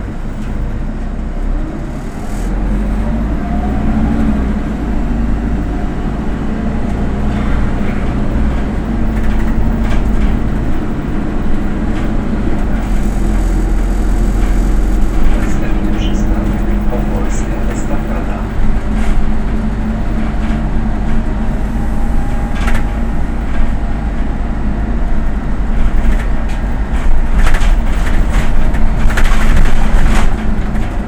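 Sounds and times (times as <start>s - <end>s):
bus engine rumbling: 0.0s - 31.0s
rising whine of bus accelerating: 0.0s - 31.0s.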